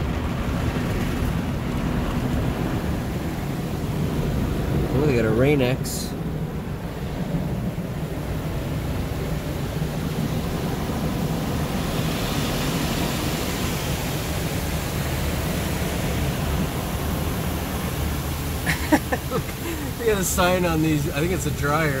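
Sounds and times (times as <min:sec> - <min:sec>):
water spraying on vehicle: 0:00.0 - 0:22.0.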